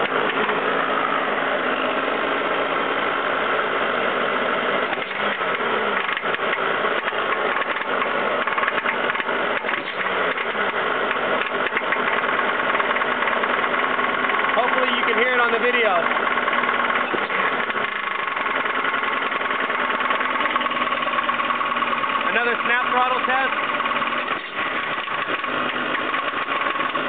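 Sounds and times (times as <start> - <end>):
engine knocking: 0.0 - 1.2, 4.8 - 27.0
car engine idling: 0.0 - 27.0.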